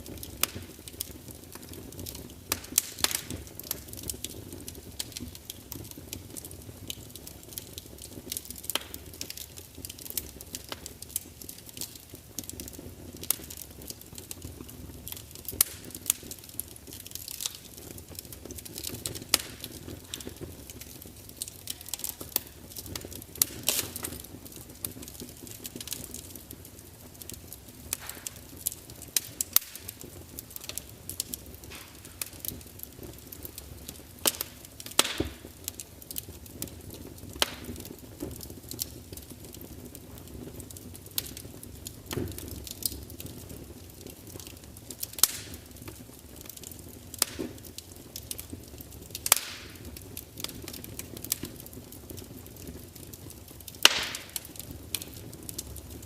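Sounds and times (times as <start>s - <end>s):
logs crackling and popping: 0.0s - 56.0s.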